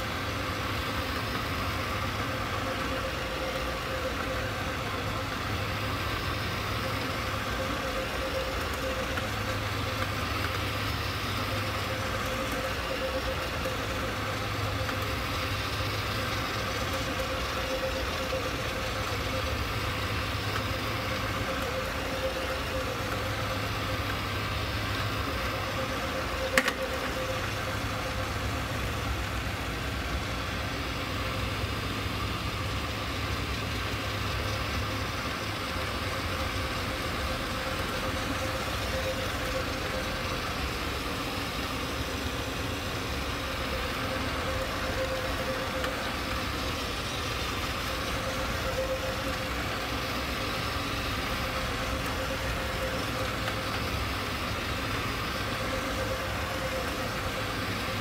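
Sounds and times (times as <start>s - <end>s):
carpet cleaning machine motor hum: 0.0s - 58.0s.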